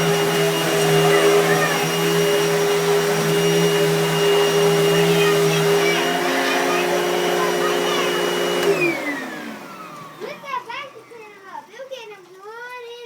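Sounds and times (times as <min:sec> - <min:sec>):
vacuum cleaner running: 0:00.0 - 0:11.8.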